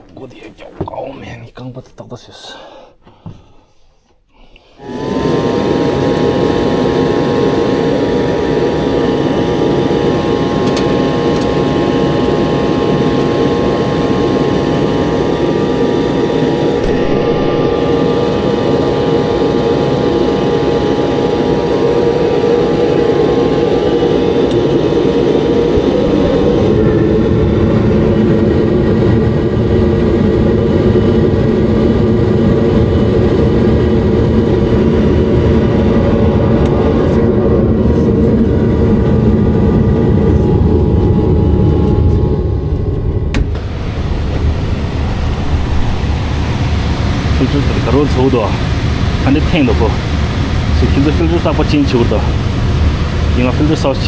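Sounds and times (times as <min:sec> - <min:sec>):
engine or motor droning: 0:04.8 - 0:54.0.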